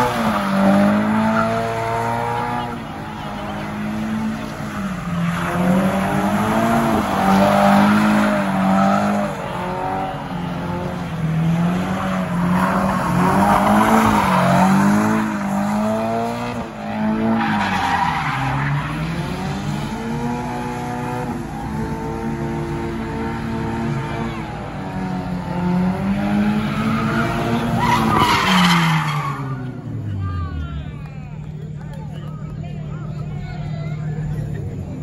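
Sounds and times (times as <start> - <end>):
car engine revving: 0.0 - 32.2.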